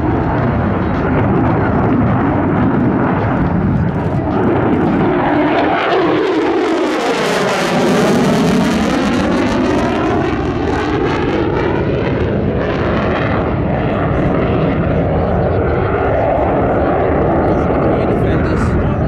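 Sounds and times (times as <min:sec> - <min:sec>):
jet engine roaring in afterburner: 0:00.0 - 0:19.0.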